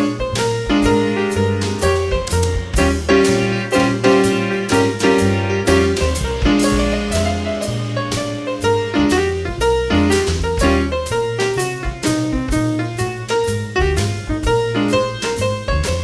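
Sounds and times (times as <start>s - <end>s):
drums on a steady beat: 0.0s - 16.0s
piano chords: 0.0s - 16.0s
walking bass line: 0.0s - 16.0s.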